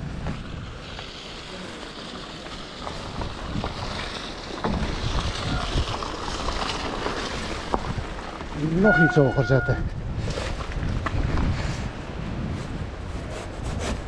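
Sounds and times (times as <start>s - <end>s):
wind buffeting microphone: 2.7s - 14.0s.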